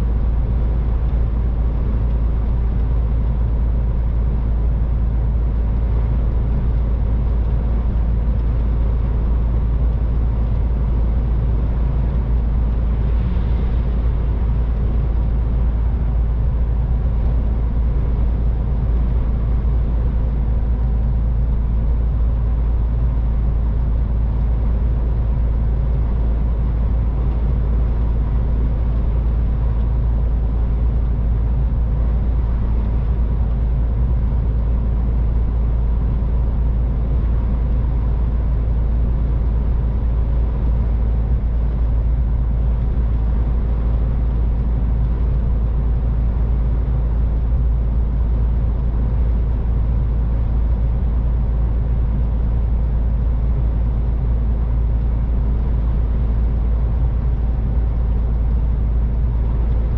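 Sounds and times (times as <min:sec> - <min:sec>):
truck engine rumbling: 0:00.0 - 0:59.9.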